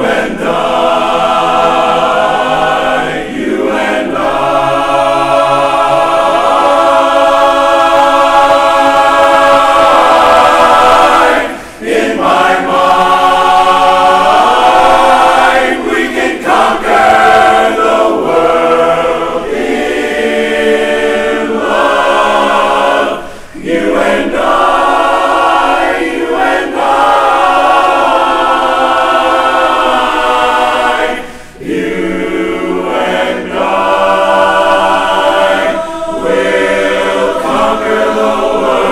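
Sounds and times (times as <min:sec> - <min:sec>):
men's chorus singing a cappella: 0:00.0 - 0:38.9.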